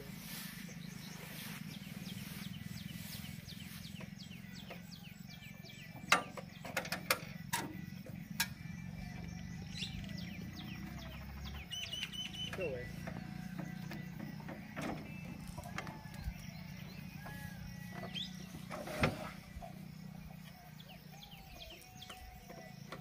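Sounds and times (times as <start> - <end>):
birds chirping: 0.0 - 23.0
tractor diesel engine humming: 0.0 - 23.0.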